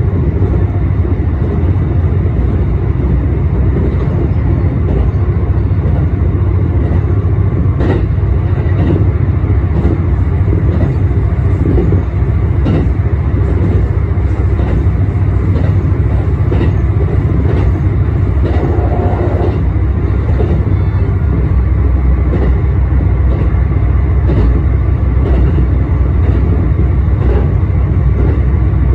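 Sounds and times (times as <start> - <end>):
railcar engine rumble: 0.0 - 28.9.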